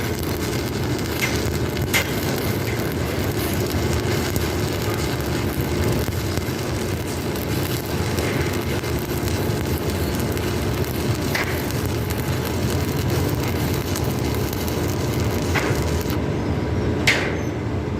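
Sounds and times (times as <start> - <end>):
arc welding crackling hiss: 0.0 - 16.2
low machine hum: 0.0 - 17.9.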